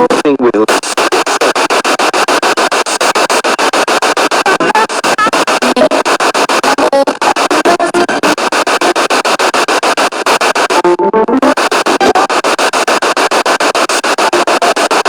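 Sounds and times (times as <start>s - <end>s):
snatches of voice: 0.0s - 10.8s, 11.4s - 15.0s
radio scanner static: 0.0s - 15.0s
snatches of music: 0.0s - 15.0s.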